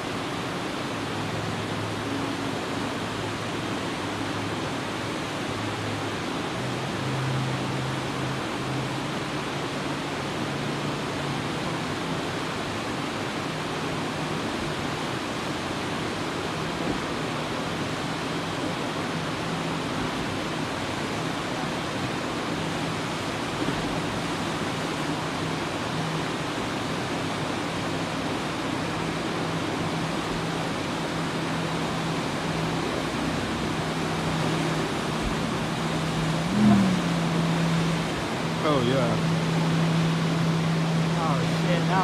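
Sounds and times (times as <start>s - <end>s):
low boat engine hum: 0.0s - 42.0s
rush of water and jet wash: 0.0s - 42.0s.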